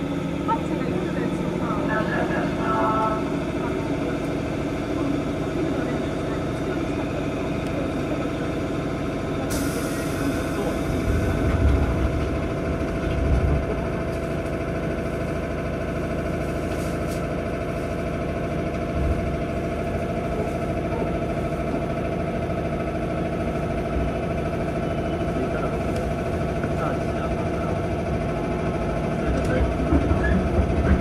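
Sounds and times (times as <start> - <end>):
electric train hum: 0.0 - 31.0.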